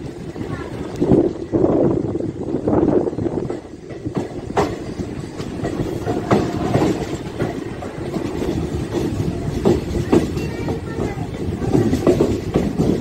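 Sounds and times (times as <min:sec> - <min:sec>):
train wheels rumbling on rails: 0:00.0 - 0:13.0
wheels clacking over rail joints: 0:00.0 - 0:13.0.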